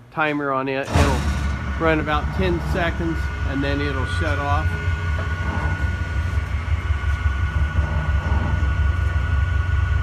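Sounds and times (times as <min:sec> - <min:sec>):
paddle mixer running: 0:00.9 - 0:10.0.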